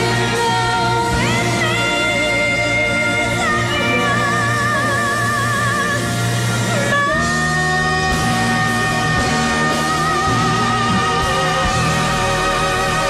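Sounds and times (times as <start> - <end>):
band accompaniment: 0.0 - 13.0.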